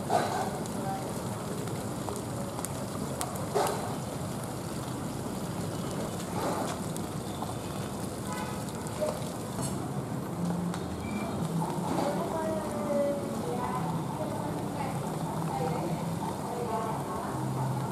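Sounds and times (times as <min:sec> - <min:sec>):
oil popping and crackling: 0:00.0 - 0:17.9
oil sizzling: 0:00.0 - 0:17.9.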